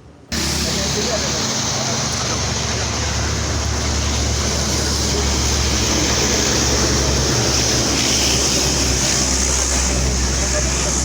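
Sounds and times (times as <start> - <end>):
vehicle engines running: 0.3 - 11.0.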